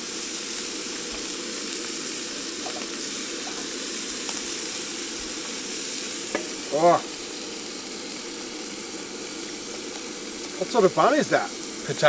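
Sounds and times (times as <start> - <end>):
patties sizzling in hot pan: 0.0 - 12.0.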